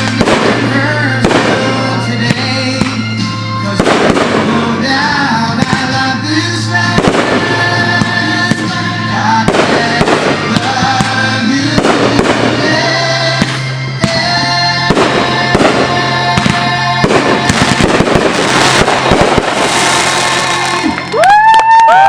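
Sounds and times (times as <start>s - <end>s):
fireworks bangs and crackling: 0.0s - 21.8s
recorded music: 0.0s - 22.0s.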